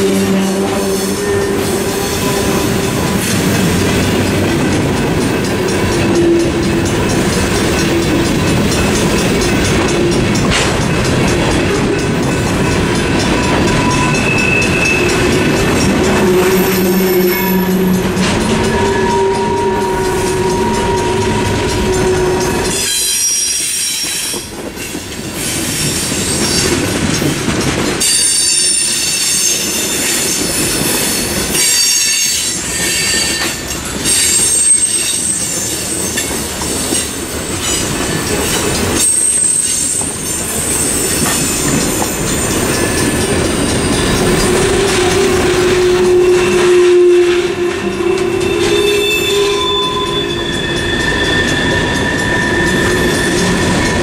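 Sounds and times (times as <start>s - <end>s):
high-pitched wheel squeal: 0.0s - 4.2s, 5.8s - 10.4s, 12.3s - 24.5s, 31.0s - 54.0s
freight train rumbling on rails: 0.0s - 54.0s.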